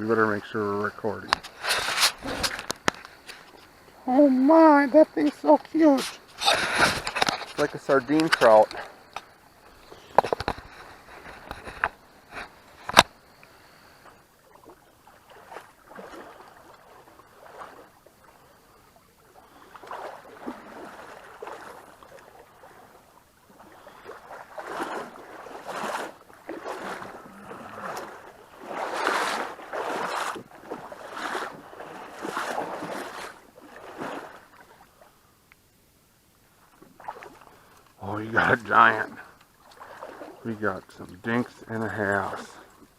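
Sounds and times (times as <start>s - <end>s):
creek water splashing: 0.0s - 35.5s, 36.1s - 42.9s.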